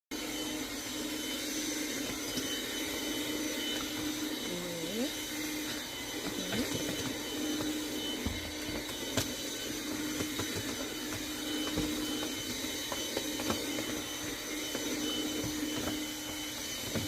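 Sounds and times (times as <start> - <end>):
vacuum cleaner running: 0.1 - 17.0.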